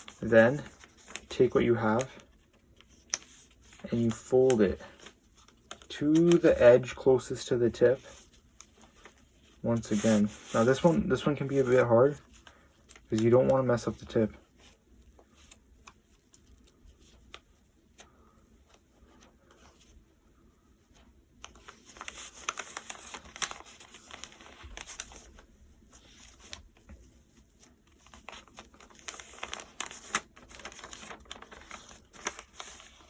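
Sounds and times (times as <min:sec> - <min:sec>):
paper rustling and creasing: 0:00.0 - 0:33.0.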